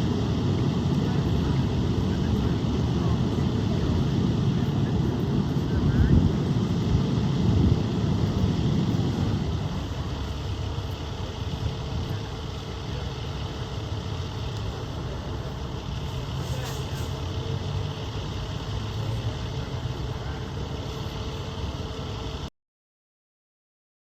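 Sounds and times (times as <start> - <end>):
street noise: 0.0 - 22.5
vehicle engine idling: 0.0 - 22.5.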